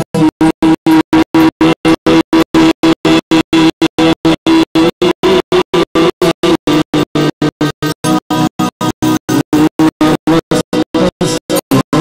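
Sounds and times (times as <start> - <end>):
live band playing stuttering: 0.0 - 12.0.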